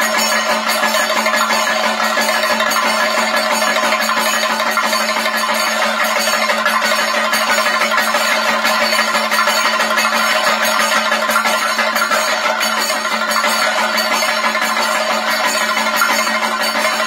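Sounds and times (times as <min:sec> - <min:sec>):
drums struck with sticks: 0:00.0 - 0:17.0
steady ringing tone: 0:00.0 - 0:17.0.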